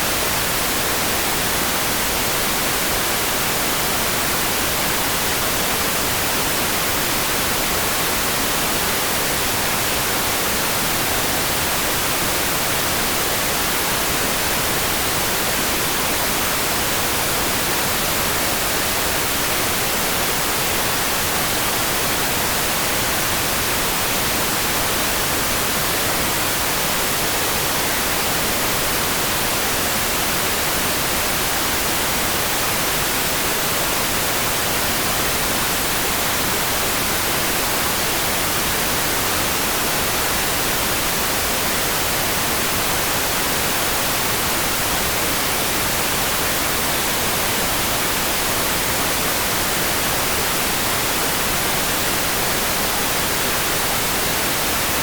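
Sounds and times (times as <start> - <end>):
steady hiss of rain: 0.0 - 55.0.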